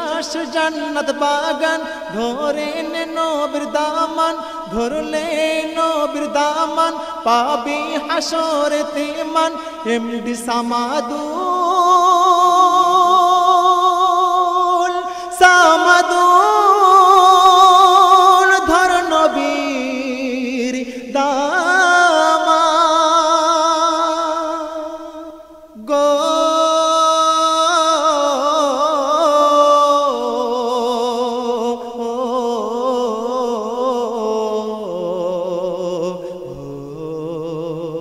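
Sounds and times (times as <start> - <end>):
person singing devotional song: 0.0 - 38.0.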